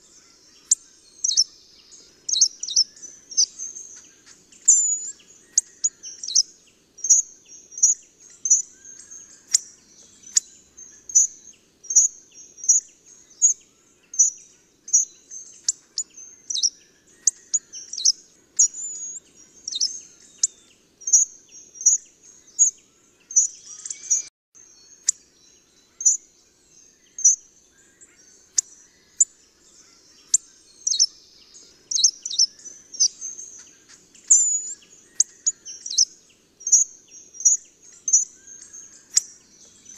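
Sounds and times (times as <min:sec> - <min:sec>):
bird calling: 0:00.0 - 0:24.3, 0:27.2 - 0:39.9.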